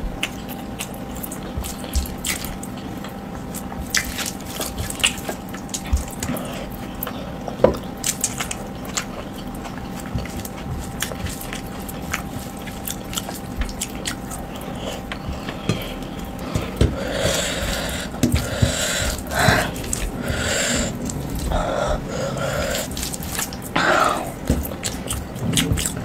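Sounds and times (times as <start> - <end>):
wet chewing and lip smacks: 0.1 - 26.0.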